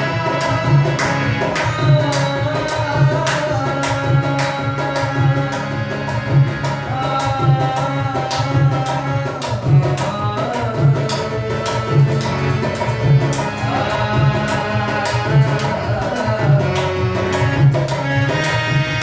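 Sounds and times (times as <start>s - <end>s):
drum playing steady rhythm: 0.0s - 19.0s.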